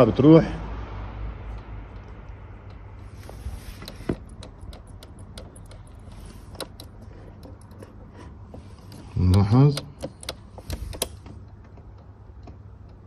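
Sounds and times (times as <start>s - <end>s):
relay and wiring clicking and rattling: 1.5s - 13.0s.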